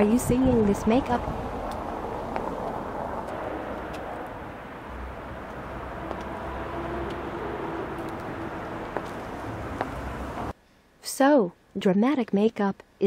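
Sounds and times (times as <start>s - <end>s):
distant traffic: 0.0s - 10.5s.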